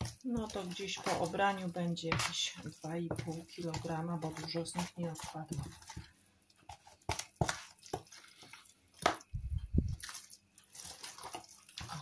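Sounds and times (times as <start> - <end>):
wet potato squelching: 0.0 - 12.0.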